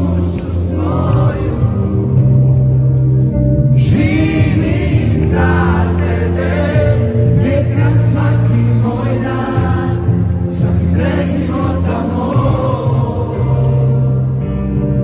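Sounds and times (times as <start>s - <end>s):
group singing worship song: 0.0s - 15.0s
low held accompaniment notes: 0.0s - 15.0s.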